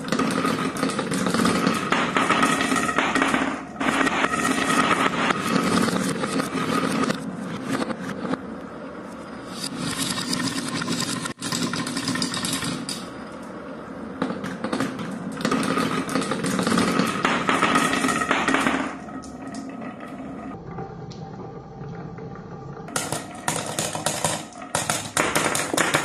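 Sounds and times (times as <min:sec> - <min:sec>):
glass marbles rolling on wooden track: 0:00.0 - 0:08.0, 0:09.5 - 0:13.4, 0:14.2 - 0:20.6, 0:22.9 - 0:26.0.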